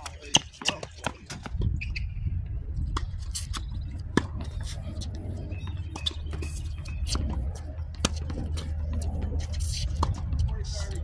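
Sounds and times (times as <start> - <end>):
balls bouncing on hard court: 0.0 - 2.0, 2.8 - 11.0
steady low rumble: 1.4 - 11.0.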